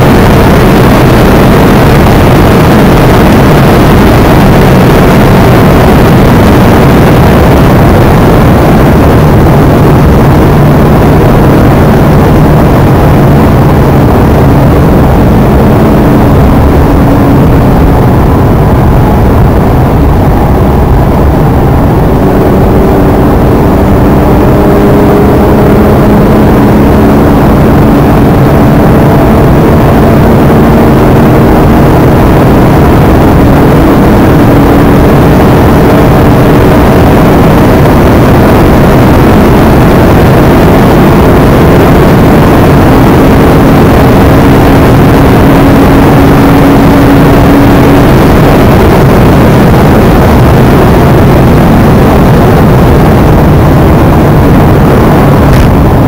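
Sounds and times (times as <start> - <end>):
car engine pulling hard: 0.0 - 56.0
road noise: 0.0 - 56.0
wind noise: 0.0 - 56.0.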